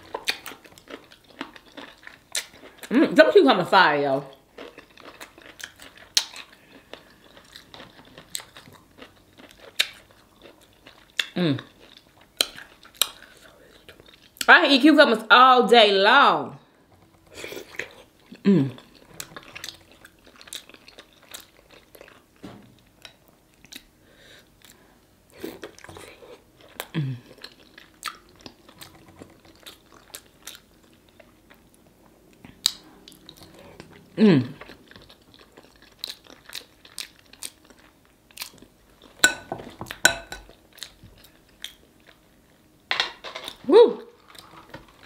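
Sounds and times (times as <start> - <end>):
chewing and crunching seafood: 0.0 - 3.2, 4.2 - 14.5, 16.6 - 42.7, 43.5 - 45.0.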